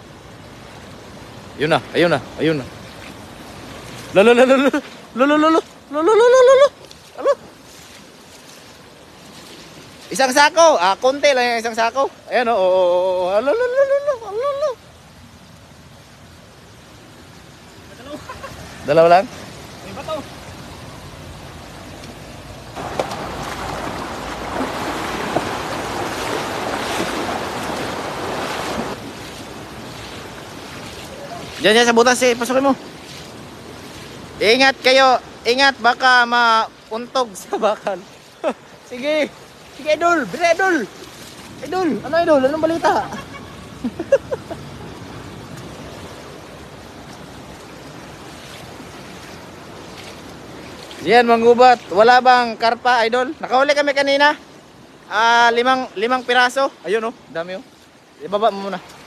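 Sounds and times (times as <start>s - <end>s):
legs splashing through river water: 0.0s - 59.0s.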